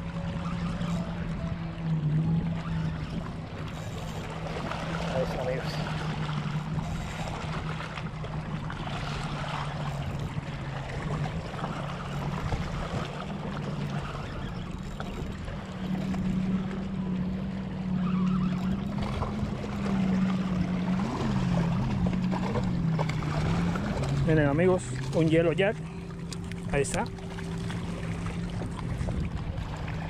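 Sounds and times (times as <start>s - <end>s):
boat engine drone: 0.0s - 30.0s
water lapping: 0.0s - 30.0s
wind: 0.0s - 30.0s.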